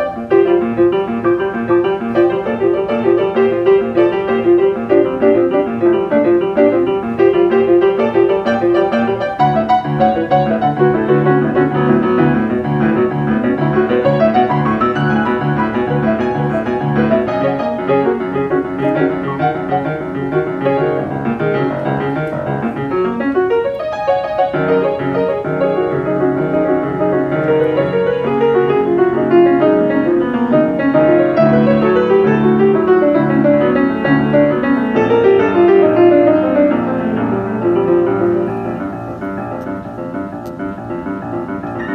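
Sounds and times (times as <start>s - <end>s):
solo jazz piano: 0.0s - 41.9s.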